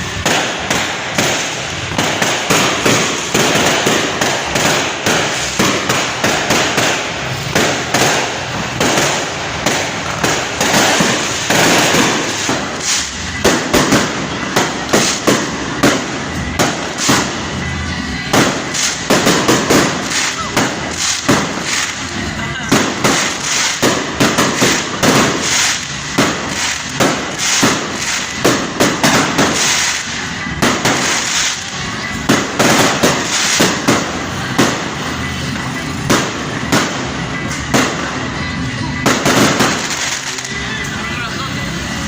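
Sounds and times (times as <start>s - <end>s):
fireworks bangs and crackling: 0.0s - 42.0s.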